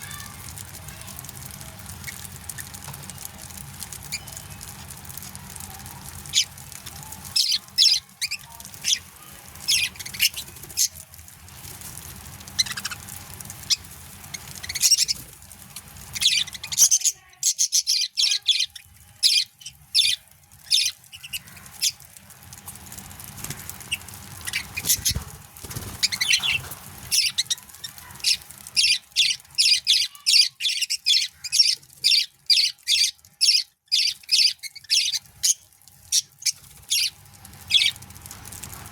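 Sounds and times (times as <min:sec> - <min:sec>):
budgerigars chirping and chattering: 0:01.9 - 0:03.2, 0:04.0 - 0:04.7, 0:05.5 - 0:11.0, 0:12.4 - 0:22.0, 0:23.5 - 0:38.0.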